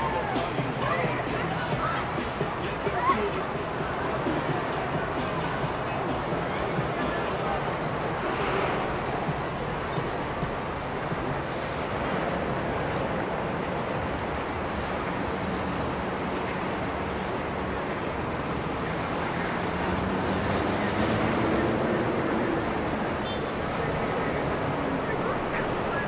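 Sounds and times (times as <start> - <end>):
low boat engine hum: 0.0 - 26.0
river water: 0.0 - 26.0
wind: 0.0 - 26.0.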